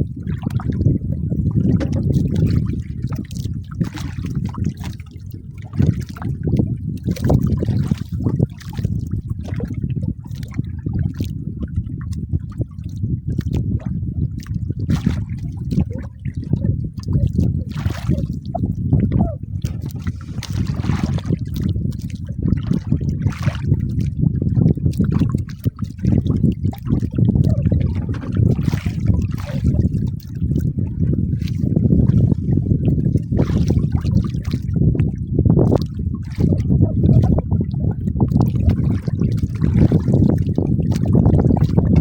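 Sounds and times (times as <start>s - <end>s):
water sloshing and splashing: 0.0s - 42.0s.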